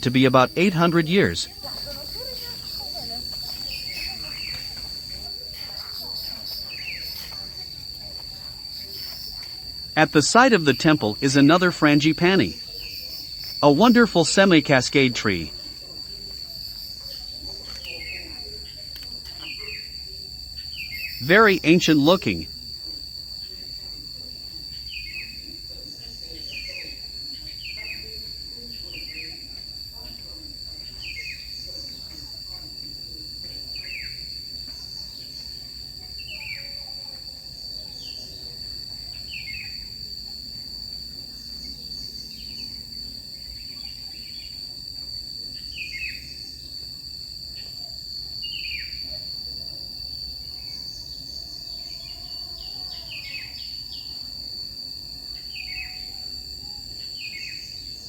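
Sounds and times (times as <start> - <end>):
high-pitched insect drone: 0.0 - 21.3, 21.9 - 58.0.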